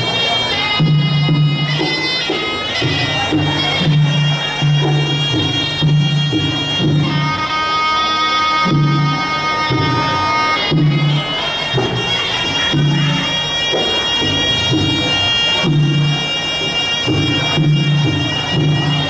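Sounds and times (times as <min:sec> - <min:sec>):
reed oboe wavering melody: 0:00.0 - 0:19.0
steady drum beat: 0:00.0 - 0:19.0.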